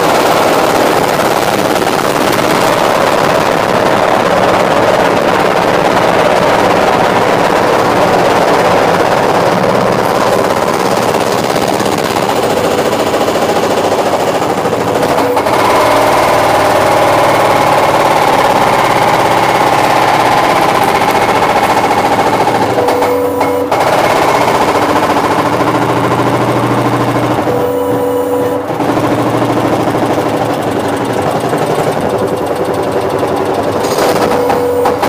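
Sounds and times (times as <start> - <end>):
hydraulic breaker pounding concrete: 0.0 - 35.0.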